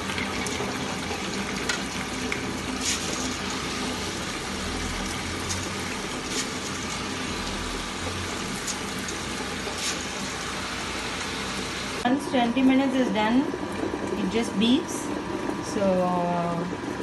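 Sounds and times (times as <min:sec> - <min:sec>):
wet grinder churning: 0:00.0 - 0:17.0.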